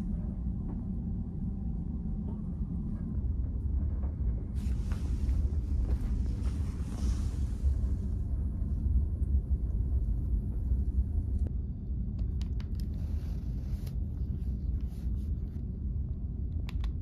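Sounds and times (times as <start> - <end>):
low rumble of ship engines: 0.0 - 17.0.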